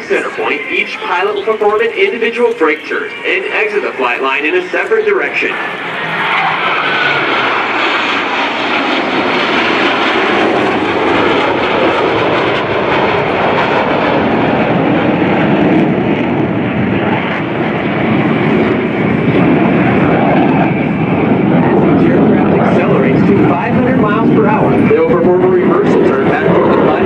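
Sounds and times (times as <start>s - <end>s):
fighter jets flying past: 0.0s - 27.0s.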